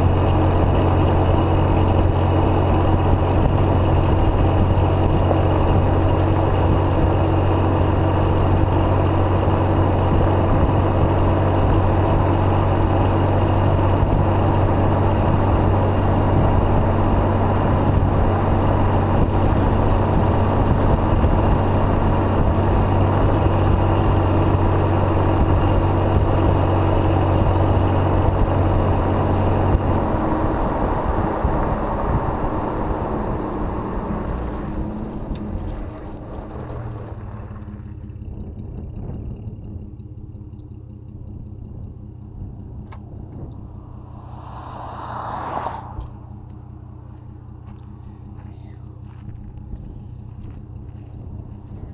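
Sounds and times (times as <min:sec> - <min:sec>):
car exhaust droning: 0:00.0 - 0:51.9.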